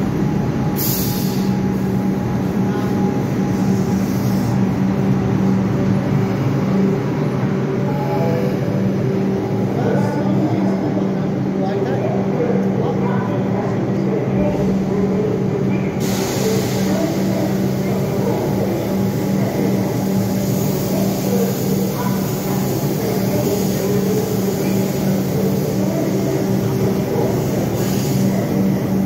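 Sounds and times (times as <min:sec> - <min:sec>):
electric train humming: 0:00.0 - 0:29.0.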